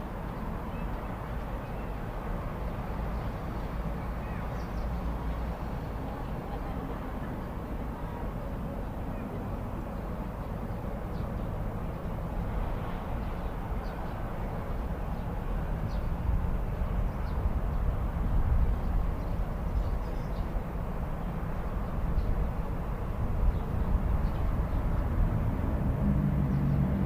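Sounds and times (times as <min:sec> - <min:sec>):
distant traffic rumble: 0:00.0 - 0:27.0.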